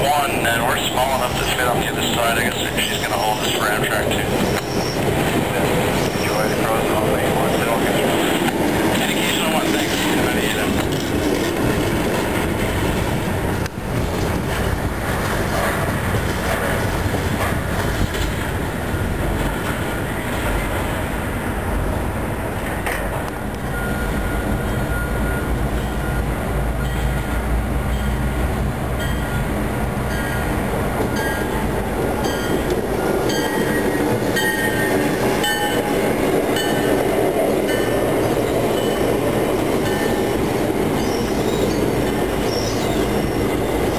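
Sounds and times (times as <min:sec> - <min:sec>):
train wheels rumbling: 0:00.0 - 0:43.9.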